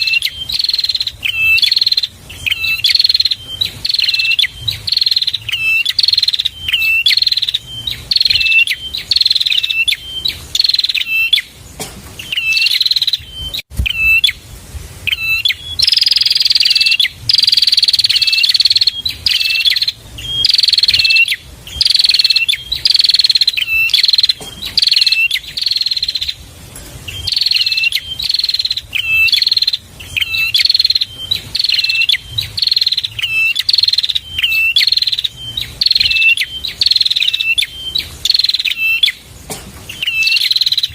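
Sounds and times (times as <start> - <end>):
bird buzzy chirping: 0.0 - 40.9.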